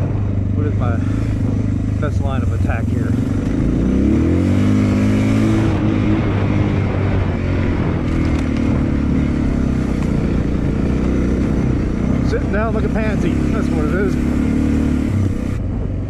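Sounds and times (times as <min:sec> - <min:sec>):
motorcycle engine climbing: 0:00.0 - 0:16.0.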